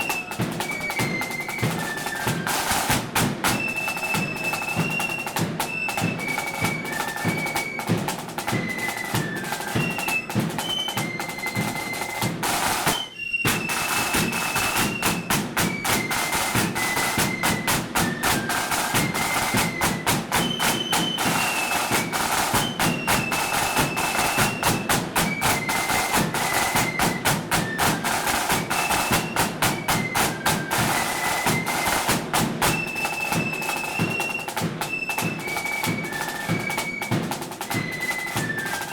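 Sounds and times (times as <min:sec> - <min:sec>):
massed flutes playing march: 0:00.0 - 0:38.9
rapid snare drumming: 0:00.0 - 0:38.9.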